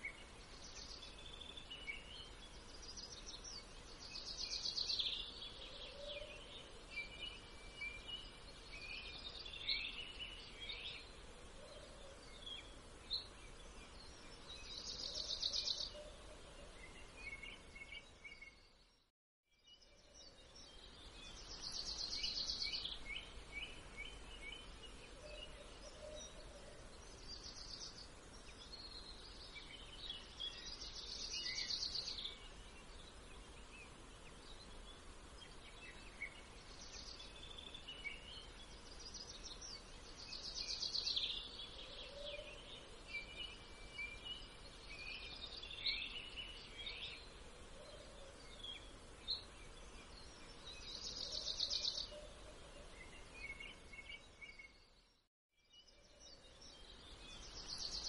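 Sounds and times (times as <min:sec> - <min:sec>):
faint steady hiss: 0:00.0 - 0:58.0
songbirds singing and chirping: 0:00.0 - 0:58.0.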